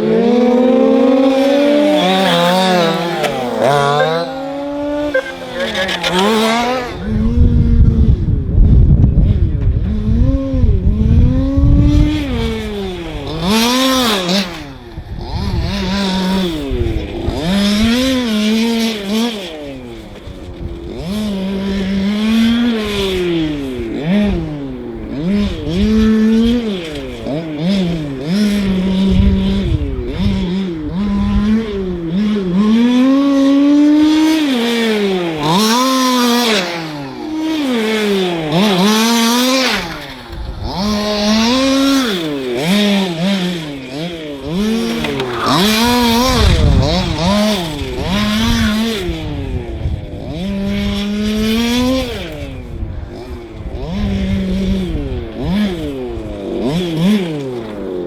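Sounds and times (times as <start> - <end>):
rc car motors buzzing: 0.0 - 58.0.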